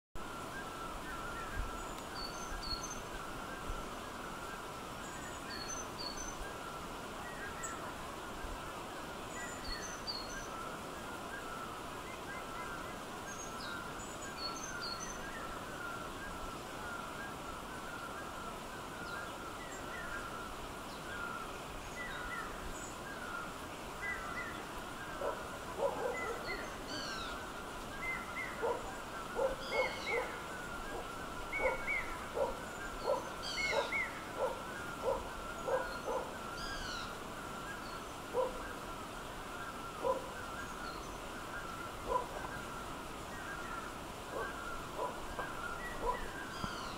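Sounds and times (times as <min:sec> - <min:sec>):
background hiss: 0:00.2 - 0:46.9
birds chirping: 0:00.2 - 0:46.9.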